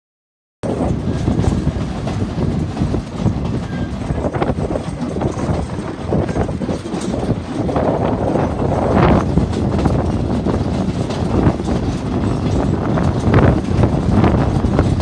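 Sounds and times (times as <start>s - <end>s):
train wheels clattering on rails: 0.6s - 15.0s.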